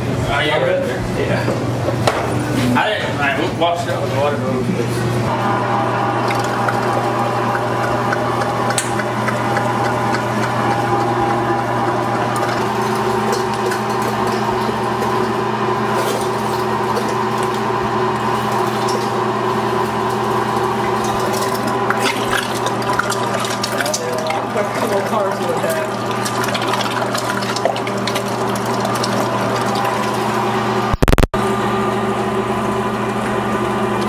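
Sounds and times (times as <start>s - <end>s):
electric meat grinder running: 5.3s - 34.0s.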